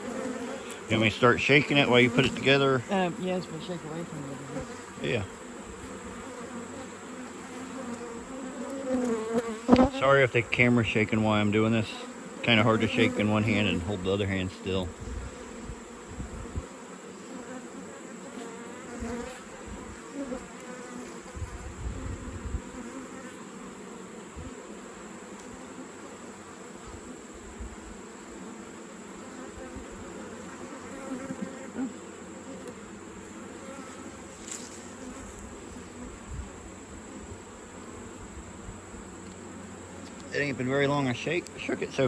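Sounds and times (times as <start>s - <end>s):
bees buzzing: 0.0s - 42.0s.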